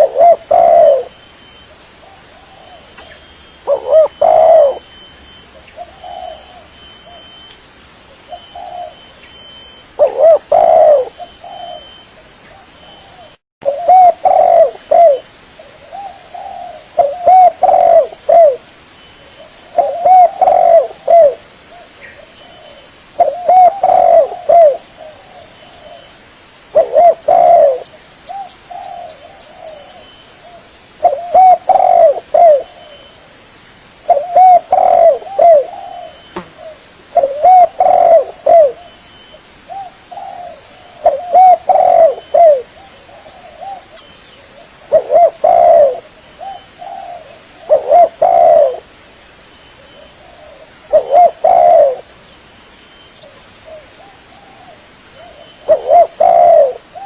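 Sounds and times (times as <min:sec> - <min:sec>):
dove cooing: 0:00.0 - 0:01.2, 0:02.0 - 0:05.0, 0:05.6 - 0:07.4, 0:08.2 - 0:26.1, 0:26.7 - 0:33.1, 0:34.0 - 0:39.0, 0:39.7 - 0:48.9, 0:49.9 - 0:52.1, 0:53.2 - 0:57.0.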